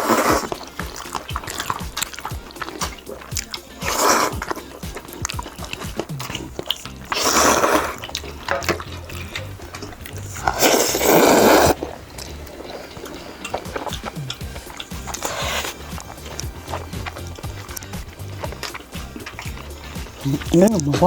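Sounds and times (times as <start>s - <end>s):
chewing: 0.0s - 21.0s
noodle slurping: 0.0s - 21.0s
utensil clicks: 0.0s - 21.0s.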